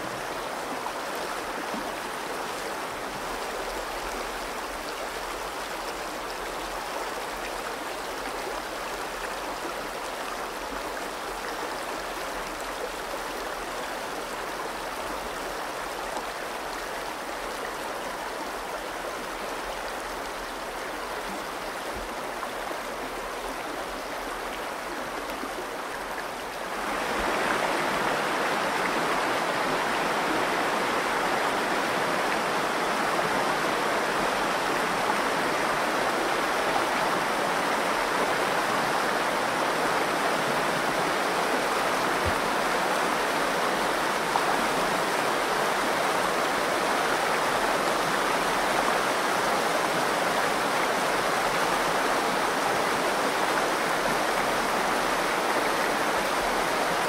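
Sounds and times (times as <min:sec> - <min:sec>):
river water rushing over cobbles: 0:00.0 - 0:57.0.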